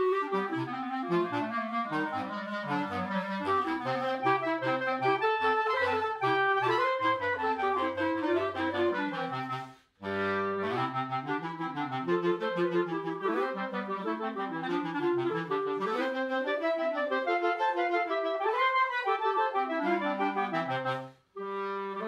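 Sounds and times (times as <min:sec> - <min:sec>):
clarinet quartet playing in harmony: 0:00.0 - 0:22.0.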